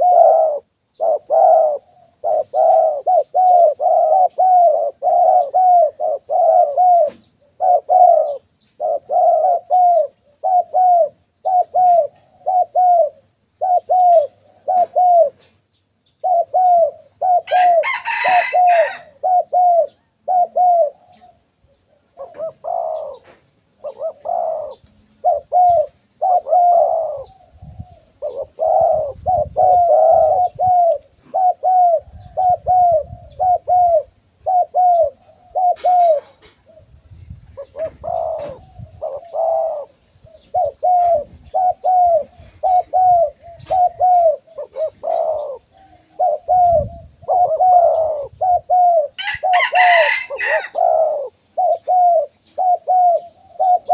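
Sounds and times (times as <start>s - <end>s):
doves cooing: 0.0s - 53.9s.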